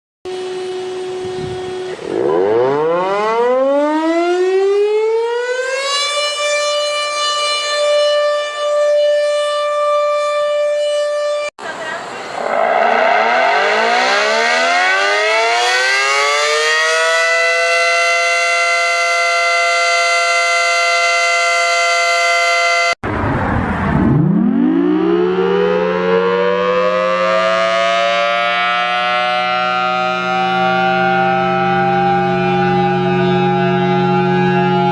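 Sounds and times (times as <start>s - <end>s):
warning siren winding up: 0.3s - 11.5s, 12.2s - 23.0s, 24.0s - 34.9s.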